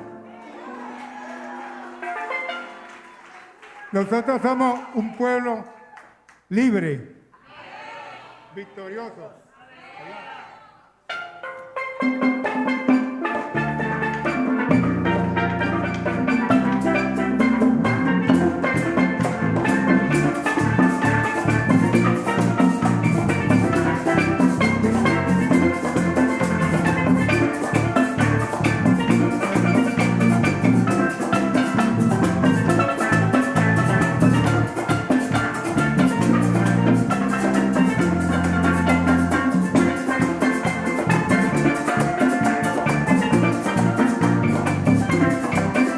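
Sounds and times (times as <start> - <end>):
upbeat band instrumental: 0.0 - 5.0, 11.0 - 45.9.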